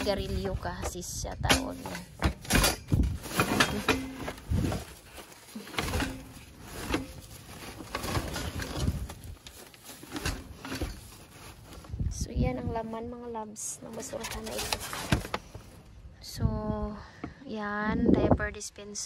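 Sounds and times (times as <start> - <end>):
rummaging through dumpster: 0.0 - 15.8.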